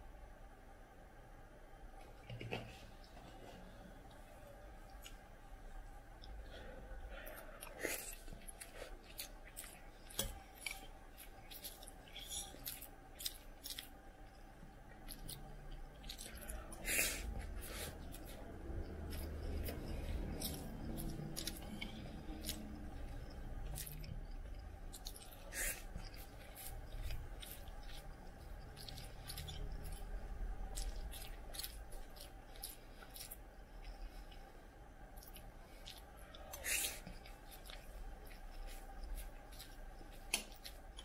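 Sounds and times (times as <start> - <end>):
chewing: 6.0 - 41.0.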